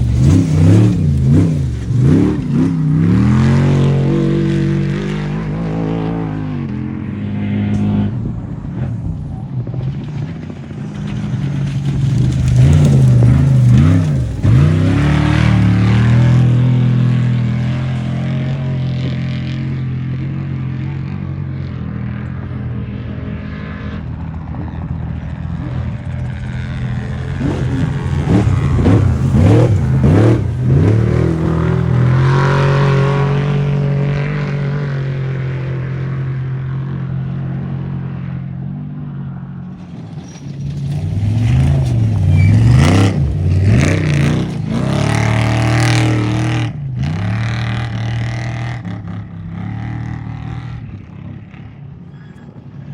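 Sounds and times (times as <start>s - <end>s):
race vehicle engines revving: 0.0s - 52.9s.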